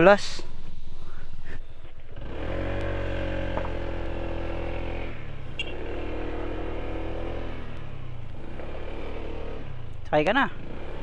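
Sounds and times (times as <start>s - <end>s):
scooter engine running: 1.2s - 11.0s.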